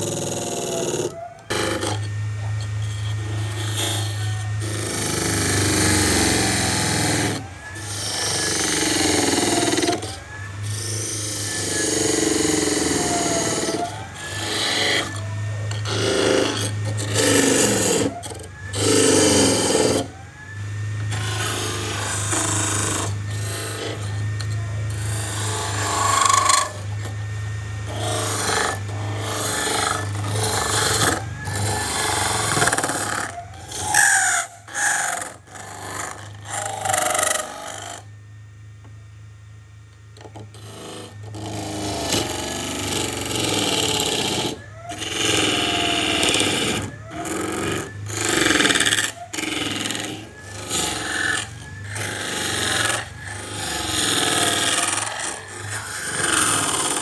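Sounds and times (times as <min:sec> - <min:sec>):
tool scraping across wood: 0:00.0 - 0:20.3, 0:20.9 - 0:38.1, 0:40.1 - 0:57.0
low steady hum: 0:00.0 - 0:57.0.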